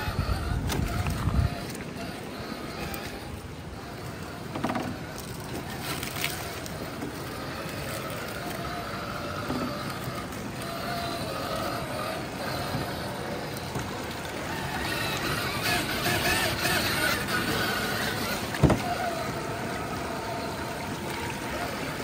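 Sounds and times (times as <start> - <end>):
toy car electric motor whining: 0.0 - 22.0.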